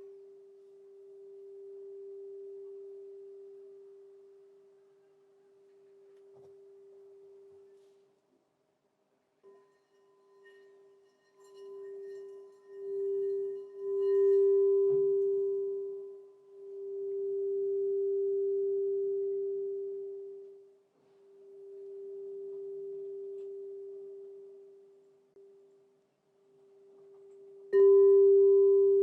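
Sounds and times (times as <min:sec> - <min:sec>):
crystal singing bowl tone: 0:00.0 - 0:07.9, 0:09.4 - 0:25.7, 0:26.6 - 0:29.0.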